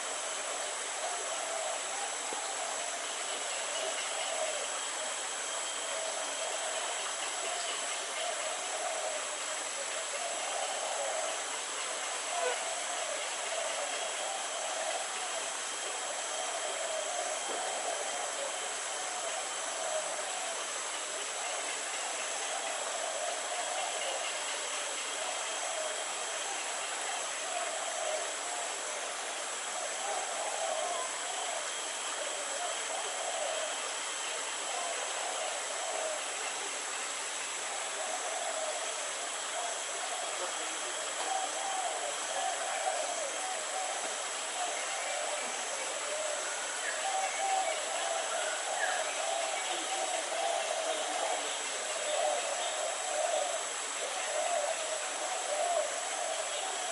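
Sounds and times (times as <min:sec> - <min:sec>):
even hiss: 0:00.0 - 0:56.9.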